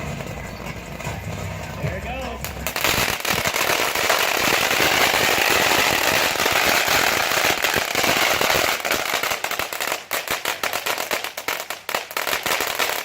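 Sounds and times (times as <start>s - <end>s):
firework crackling and popping: 0.0s - 13.0s.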